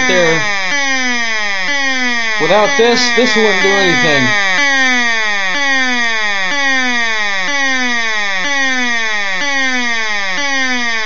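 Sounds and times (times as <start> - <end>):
buzzy electronic siren: 0.0 - 11.0.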